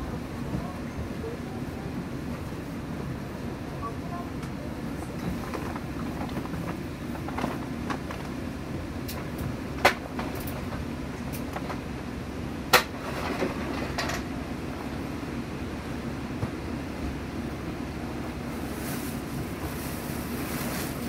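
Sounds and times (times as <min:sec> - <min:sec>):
railcar engine and wheels rumbling: 0:00.0 - 0:21.0.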